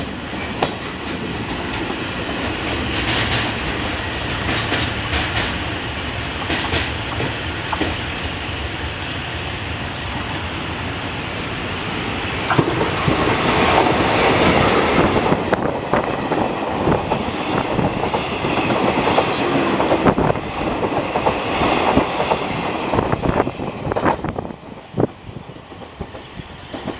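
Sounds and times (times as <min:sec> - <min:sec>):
train wheels clattering on rails: 0:00.2 - 0:05.8, 0:06.4 - 0:08.4, 0:12.4 - 0:26.9.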